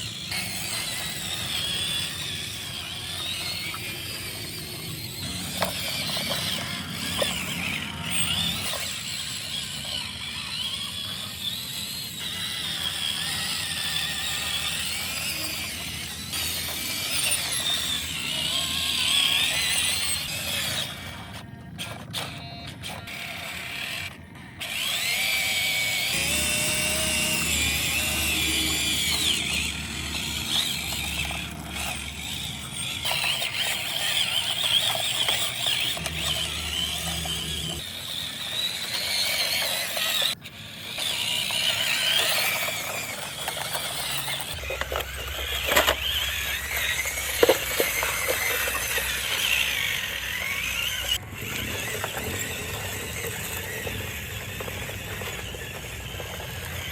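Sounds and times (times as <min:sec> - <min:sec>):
electric motor and gearbox whining: 0:00.0 - 0:56.9.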